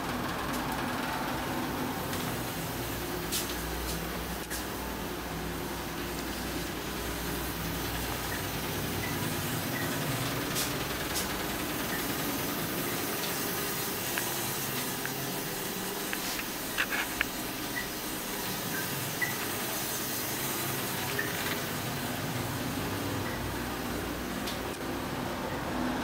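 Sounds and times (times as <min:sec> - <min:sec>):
room noise hiss: 0:00.0 - 0:26.0.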